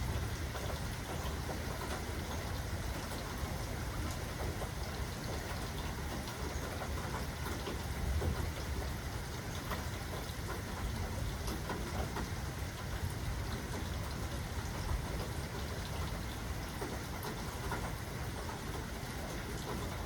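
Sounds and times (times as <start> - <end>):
rain low rumble: 0.0 - 20.0
raindrops ticking: 0.0 - 20.0.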